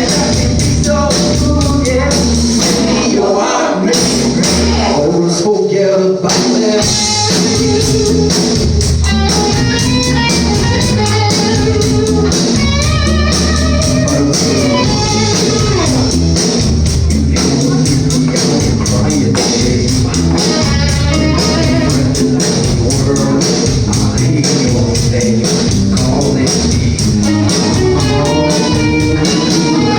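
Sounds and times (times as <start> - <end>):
band with guitar bass and drums: 0.0 - 3.2, 3.8 - 5.1, 6.3 - 29.9.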